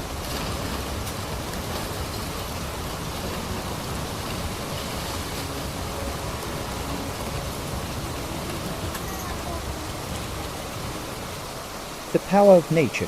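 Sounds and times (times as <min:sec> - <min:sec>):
flowing water: 0:00.0 - 0:13.0
heavy rain: 0:00.0 - 0:13.0.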